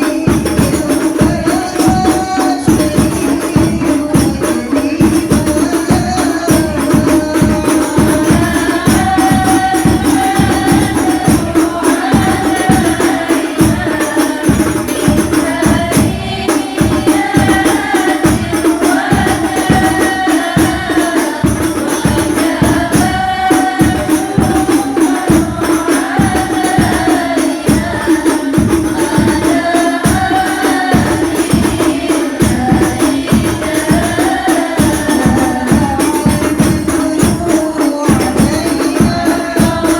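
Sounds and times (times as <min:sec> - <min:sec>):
frame drums beating: 0:00.0 - 0:39.9
voices singing devotional song: 0:00.0 - 0:39.9.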